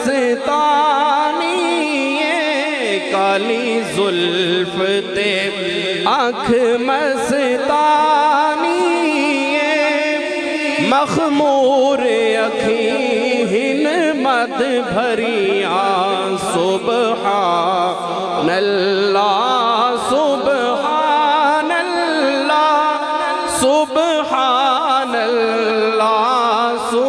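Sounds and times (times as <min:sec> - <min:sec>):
man chanting through a microphone: 0:00.0 - 0:27.0.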